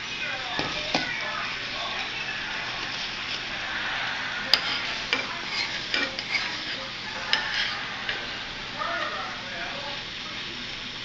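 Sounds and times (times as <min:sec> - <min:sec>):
liquid bubbling and sizzling: 0:00.0 - 0:11.0.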